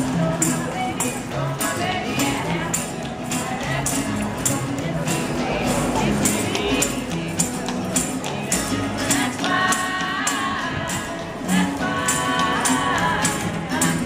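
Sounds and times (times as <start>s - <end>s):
jingling percussion beat: 0.0s - 14.0s
person singing: 0.0s - 14.0s.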